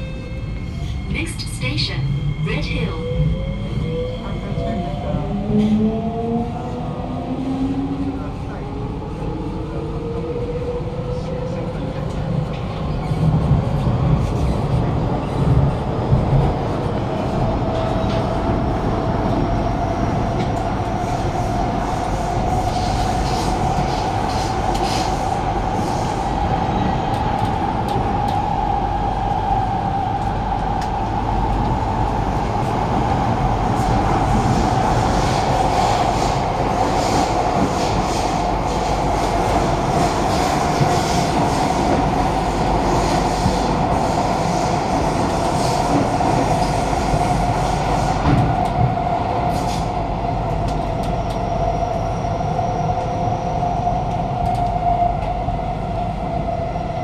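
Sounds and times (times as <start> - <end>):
train wheels rumbling on rail: 0.6 - 57.0.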